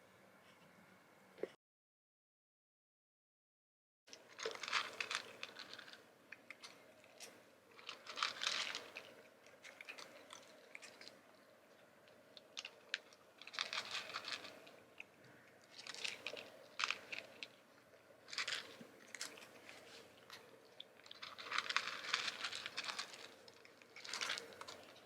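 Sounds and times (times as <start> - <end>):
crunching: 4.1 - 25.0.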